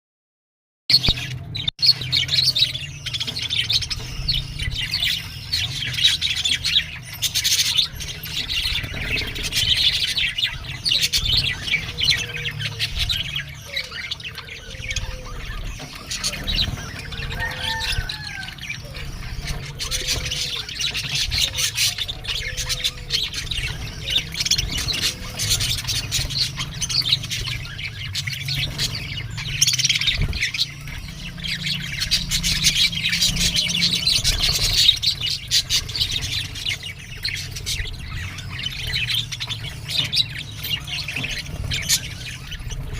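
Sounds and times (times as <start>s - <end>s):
budgerigars chattering and chirping: 0.9s - 42.9s.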